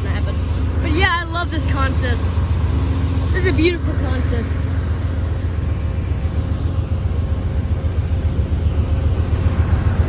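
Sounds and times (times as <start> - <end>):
diesel locomotives idling: 0.0 - 10.0.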